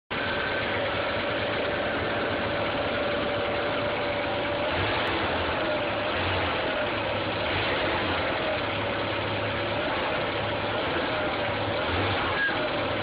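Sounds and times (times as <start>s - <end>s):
car engine idling: 0.1s - 13.0s.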